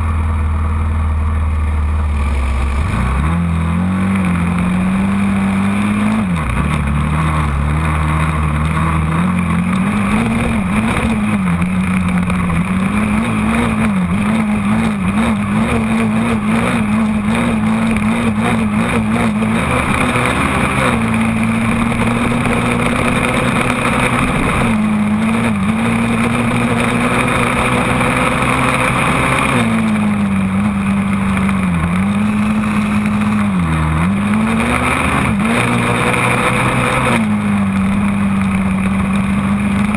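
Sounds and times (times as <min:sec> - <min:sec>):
quad engine revving: 0:01.7 - 0:39.9.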